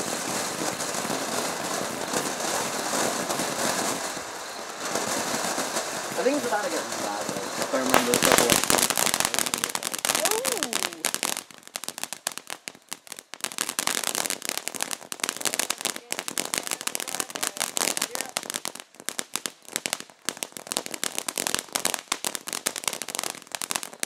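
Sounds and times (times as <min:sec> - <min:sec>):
firework crackling: 0:00.0 - 0:24.0.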